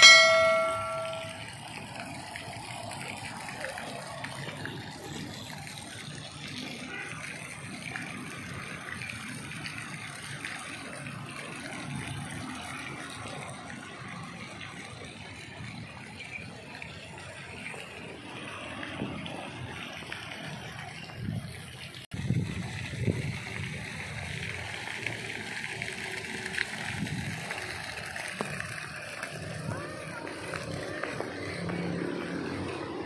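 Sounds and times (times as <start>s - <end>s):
distant road traffic: 0.0s - 22.1s, 22.8s - 33.0s.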